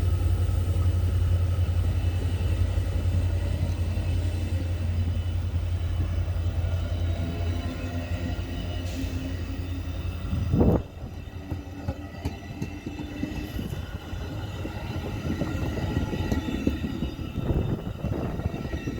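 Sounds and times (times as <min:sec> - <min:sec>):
diesel locomotive droning: 0:00.0 - 0:18.9
rail cars rumbling on track: 0:00.0 - 0:18.9.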